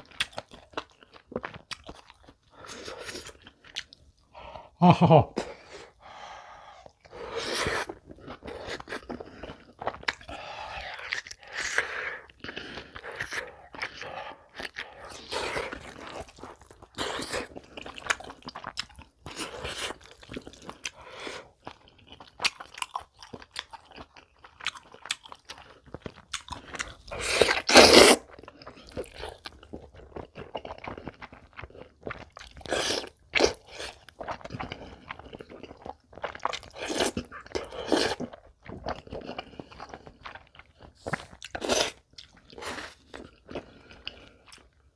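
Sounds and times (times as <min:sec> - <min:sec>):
person chewing crunchy food: 0:00.0 - 0:04.3, 0:05.5 - 0:44.9.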